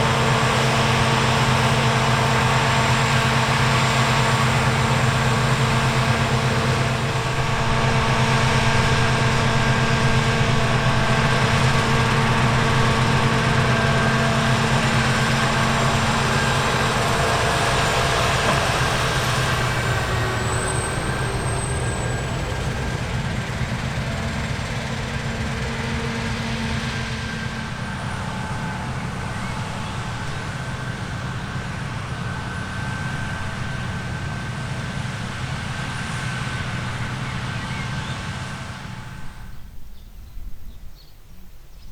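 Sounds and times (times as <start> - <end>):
large diesel engine running: 0.0 - 39.8.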